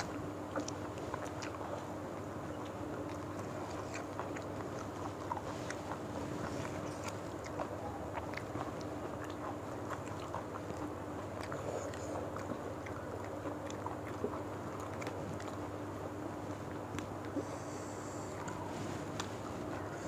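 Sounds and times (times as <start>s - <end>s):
people chewing: 0.0s - 20.0s
steady low hum: 0.0s - 20.0s.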